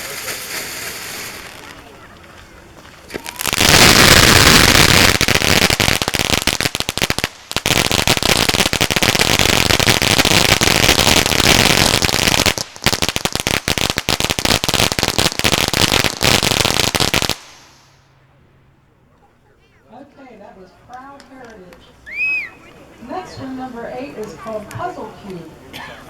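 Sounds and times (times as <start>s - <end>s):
firework fountain crackling: 0.0s - 18.2s, 19.9s - 25.8s.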